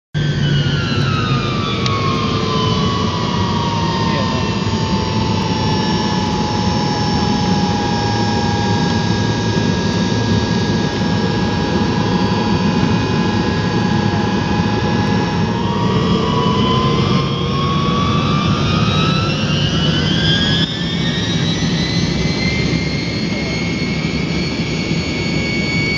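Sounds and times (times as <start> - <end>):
jet engines rumbling and whining: 0.2 - 25.9.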